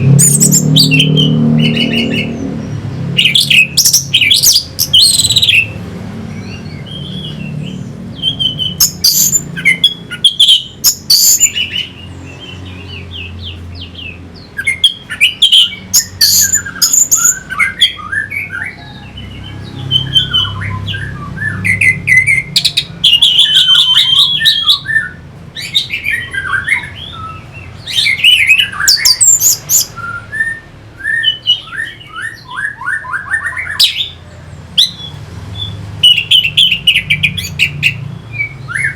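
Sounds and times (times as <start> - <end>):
thrush singing whistled trills: 0.0 - 38.9.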